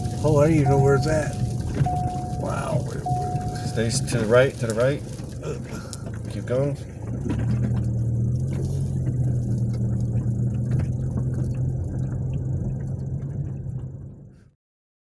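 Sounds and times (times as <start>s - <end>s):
engine running with low hum: 0.0s - 14.6s.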